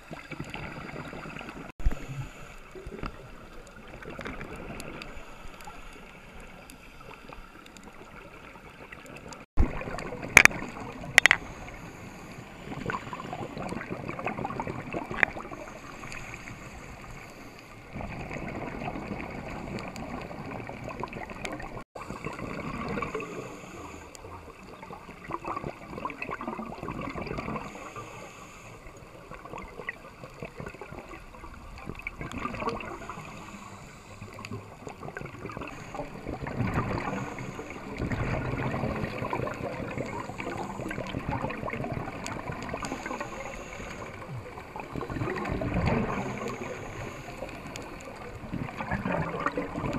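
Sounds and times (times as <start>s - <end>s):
muffled underwater noise: 0.0s - 49.9s
gurgling breathing bubbles: 9.6s - 49.9s.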